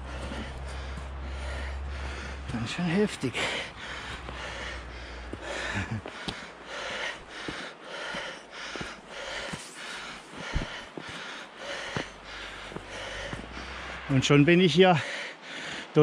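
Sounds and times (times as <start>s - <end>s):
person breathing hard: 0.0s - 14.2s, 15.0s - 16.0s.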